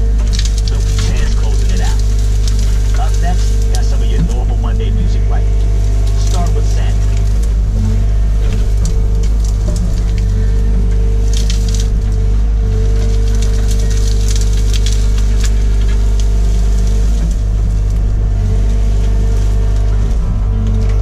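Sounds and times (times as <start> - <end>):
branches crackling and snapping: 0.0 - 21.0
excavator diesel engine and hydraulics: 0.0 - 21.0.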